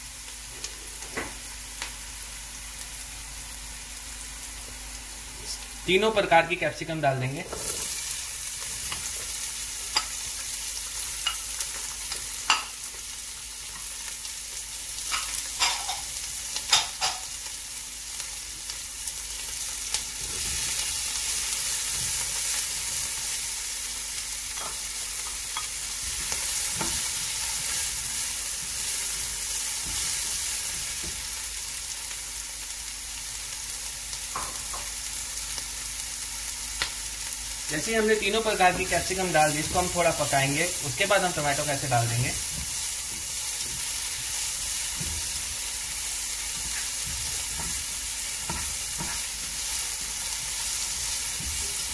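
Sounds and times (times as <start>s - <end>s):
vegetables sizzling in oil: 0.0s - 51.9s.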